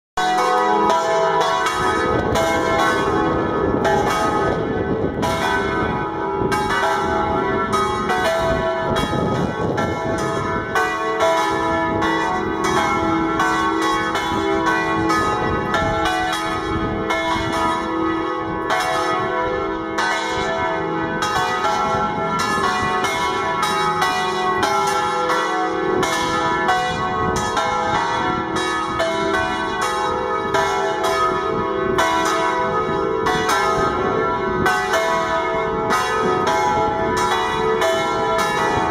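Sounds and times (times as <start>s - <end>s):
church bells ringing: 0.2s - 38.9s.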